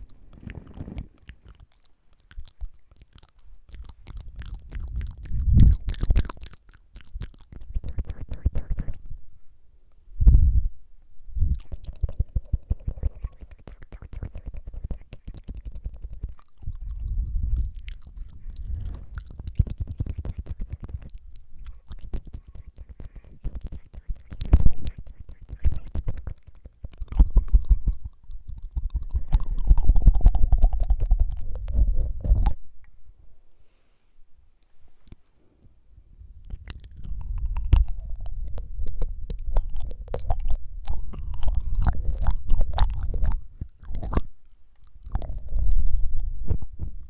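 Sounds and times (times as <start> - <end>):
wet tongue fluttering: 0.0 - 9.2, 11.2 - 32.9, 36.1 - 47.0.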